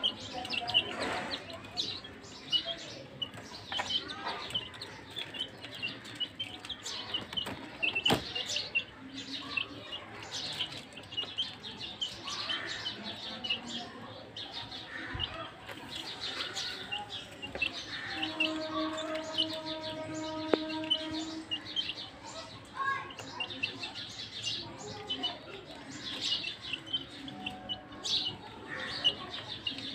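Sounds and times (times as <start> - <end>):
chicks peeping: 0.0 - 29.9.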